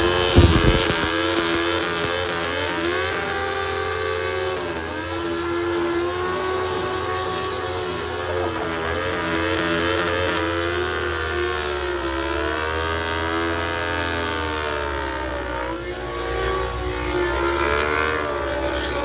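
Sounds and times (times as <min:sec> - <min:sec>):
engine revving high: 0:00.0 - 0:19.0.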